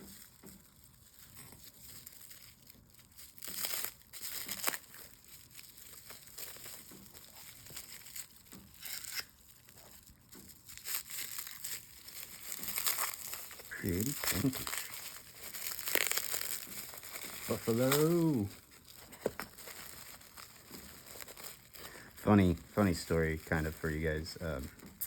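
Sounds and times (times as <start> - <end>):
packing material crinkling and tearing: 0.0 - 25.0.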